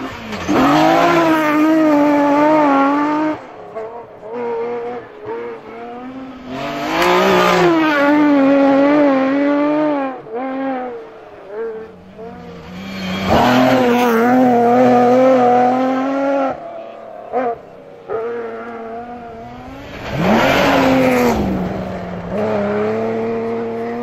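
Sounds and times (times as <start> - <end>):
rally car engines at high revs: 0.0 - 24.0.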